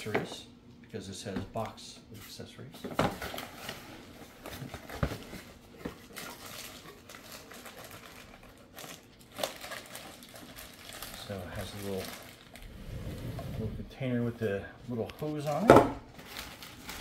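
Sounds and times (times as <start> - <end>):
plastic bags rustling: 3.1 - 17.0.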